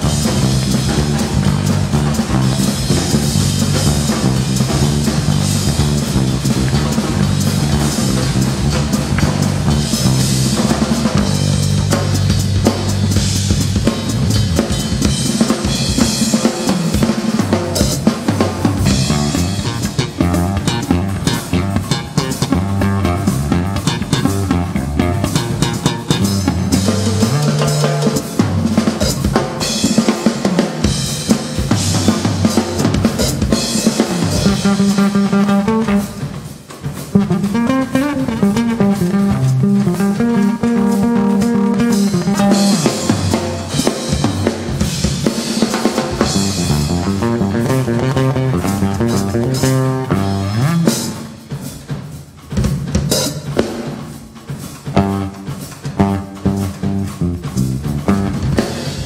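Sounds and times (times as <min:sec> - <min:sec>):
guitar: 0:00.0 - 0:51.7, 0:54.8 - 0:59.0
drum kit playing: 0:00.0 - 0:59.0.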